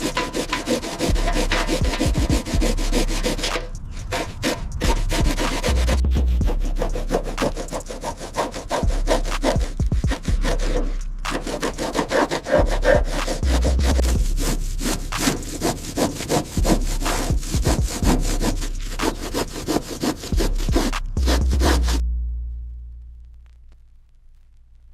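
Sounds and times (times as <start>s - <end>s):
hand scraping strokes: 0.0s - 22.0s.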